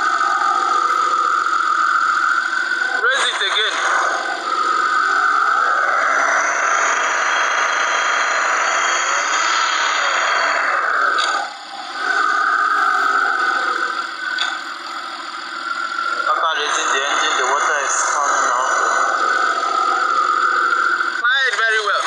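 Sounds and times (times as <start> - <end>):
car engine running: 0.0 - 22.0
high-pitched whine: 0.0 - 22.0.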